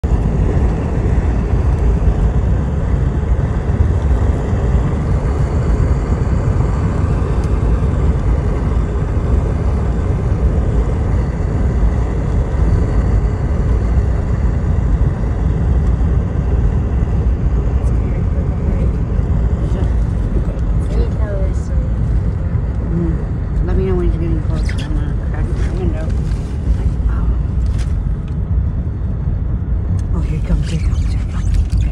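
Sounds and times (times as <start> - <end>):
steady low rumbling: 0.0 - 31.9.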